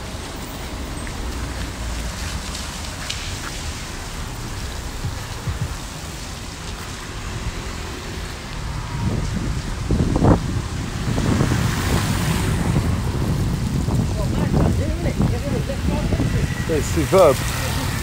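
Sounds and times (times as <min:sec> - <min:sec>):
rain falling: 0:00.0 - 0:18.0
wind gusting on microphone: 0:00.0 - 0:18.0.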